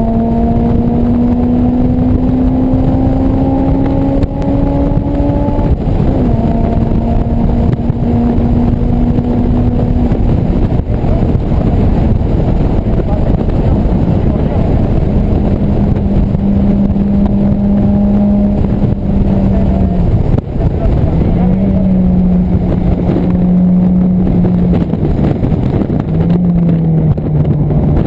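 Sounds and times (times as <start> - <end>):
car engine revving: 0.0 - 28.0
heavy wind rush: 0.0 - 28.0.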